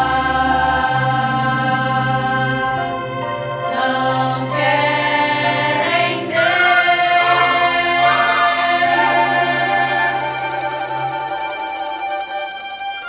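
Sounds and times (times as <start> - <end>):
choir singing long notes: 0.0 - 13.0
orchestral accompaniment: 0.0 - 13.0.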